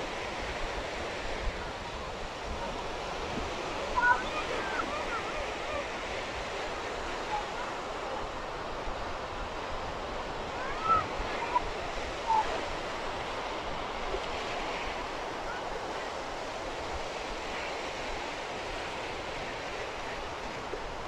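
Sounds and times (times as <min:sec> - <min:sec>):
waves washing over rocks: 0:00.0 - 0:21.0.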